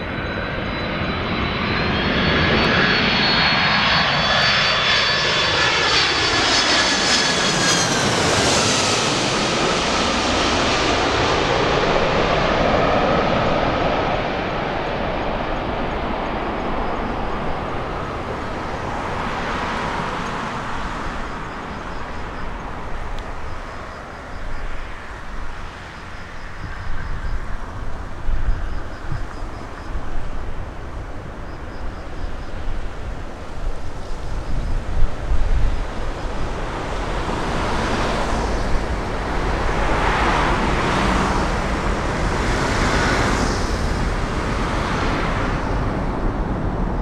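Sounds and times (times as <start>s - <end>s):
jet passing low overhead: 0.0s - 47.0s.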